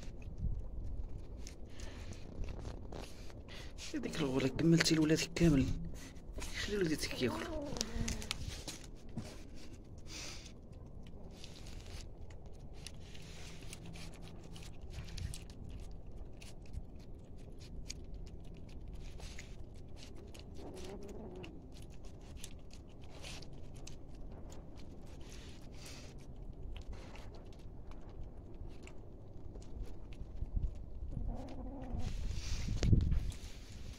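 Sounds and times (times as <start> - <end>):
cats chewing wet food: 0.0 - 33.9
low steady rumble: 0.0 - 33.9.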